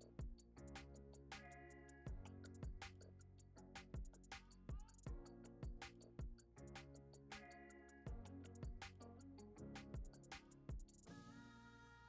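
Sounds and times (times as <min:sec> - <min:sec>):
light ticking beat: 0:00.0 - 0:11.1.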